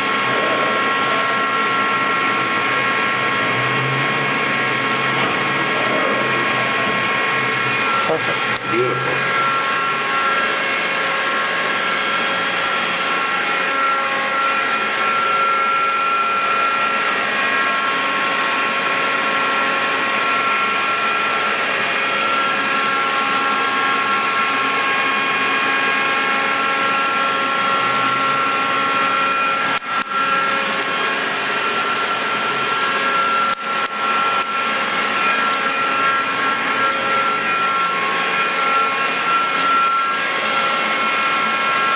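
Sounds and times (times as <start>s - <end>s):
lathe mechanical whine: 0.0s - 41.9s.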